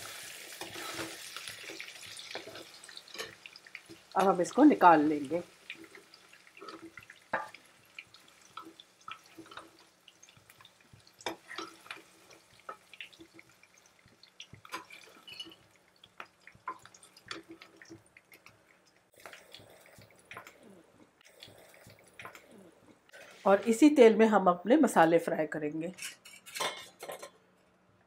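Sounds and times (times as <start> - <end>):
frying oil crackling and popping: 0.0 - 23.2.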